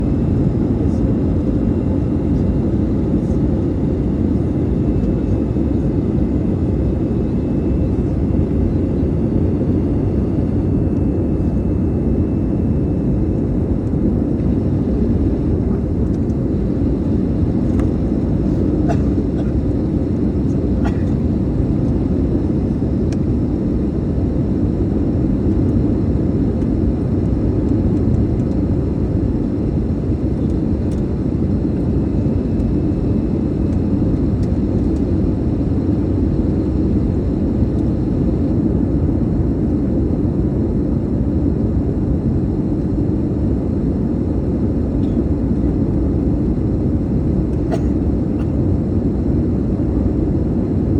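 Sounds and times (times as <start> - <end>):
airliner cabin roar: 0.0 - 50.9.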